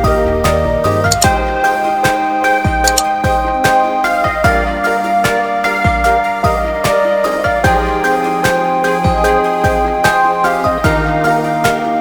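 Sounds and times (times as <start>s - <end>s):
soft keyboard melody: 0.0s - 12.0s
steady low beat: 0.0s - 12.0s.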